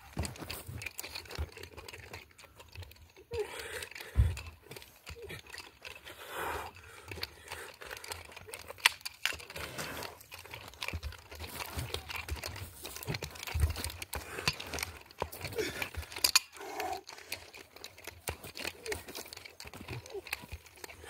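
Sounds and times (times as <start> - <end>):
nunchaku swinging: 0.0 - 21.0.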